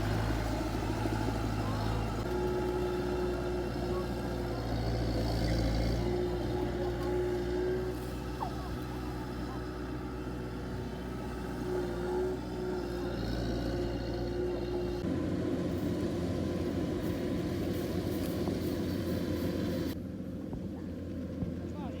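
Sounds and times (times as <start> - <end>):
farm machinery engine running: 0.0 - 22.0.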